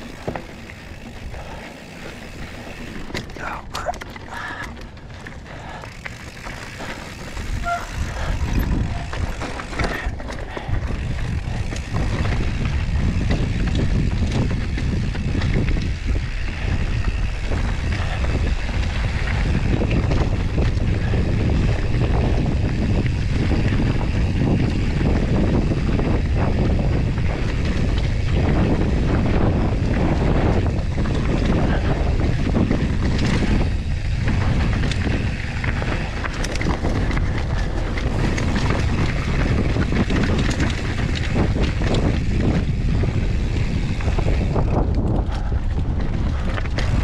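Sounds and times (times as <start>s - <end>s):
bike rattling over trail: 0.0s - 47.0s
wind rushing over microphone: 0.0s - 47.0s.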